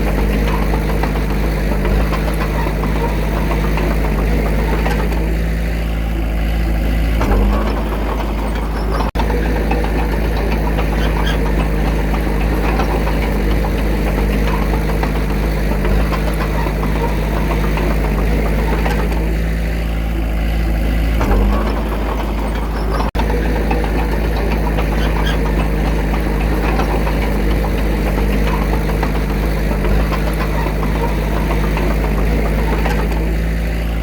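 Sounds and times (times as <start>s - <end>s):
diesel engine clattering: 0.0s - 34.0s.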